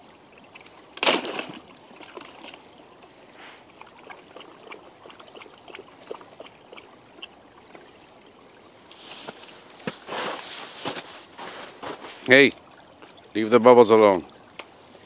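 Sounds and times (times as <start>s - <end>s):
creek trickling: 0.0s - 15.0s.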